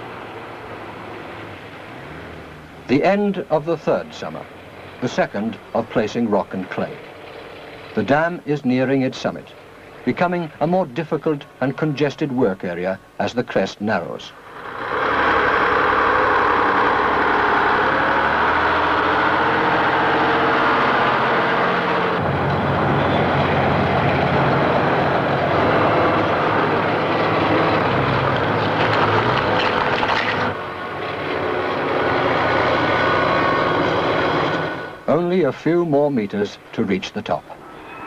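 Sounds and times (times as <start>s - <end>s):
heavy diesel engines running: 0.0s - 38.0s.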